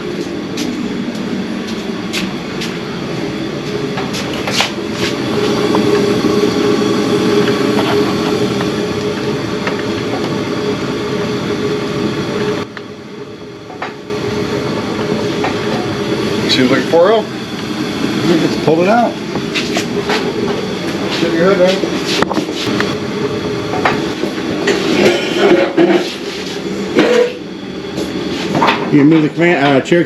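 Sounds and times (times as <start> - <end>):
vehicle engine running: 0.0 - 25.6.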